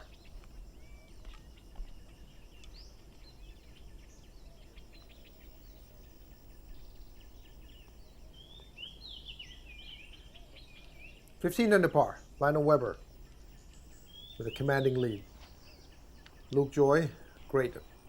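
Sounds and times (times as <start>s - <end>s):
birds chirping: 0.0s - 18.0s
low steady background hiss: 0.0s - 18.0s.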